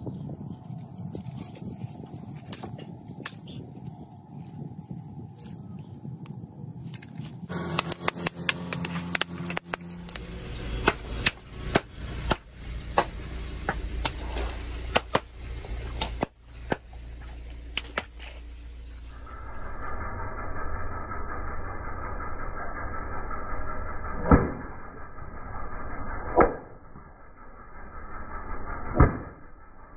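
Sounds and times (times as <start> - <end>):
low rumble of car: 0.0 - 29.9.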